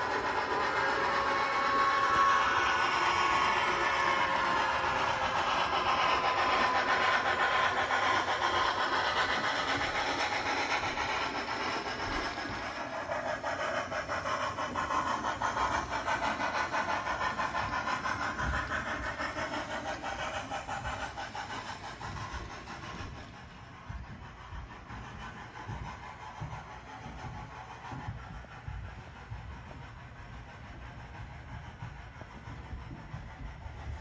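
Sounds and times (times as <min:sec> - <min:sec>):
model train rattling on track: 0:00.0 - 0:34.0.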